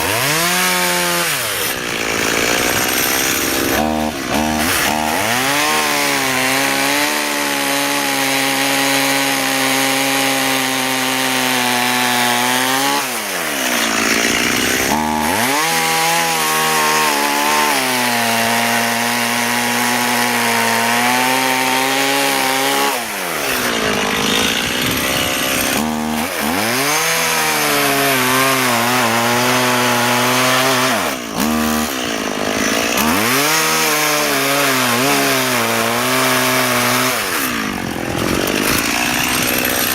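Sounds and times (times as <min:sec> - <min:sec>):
chainsaw cutting hardwood: 0:00.0 - 0:39.9.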